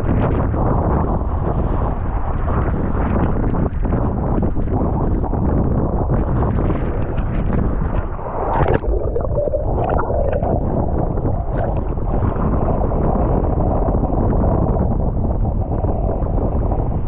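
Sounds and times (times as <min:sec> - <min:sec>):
wind buffeting microphone: 0:00.0 - 0:17.0
rush of water: 0:01.8 - 0:17.0.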